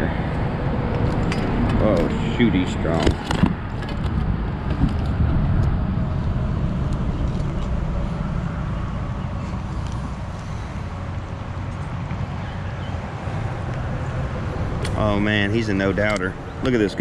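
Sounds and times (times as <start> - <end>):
low rumble of highway traffic: 0.0 - 17.0.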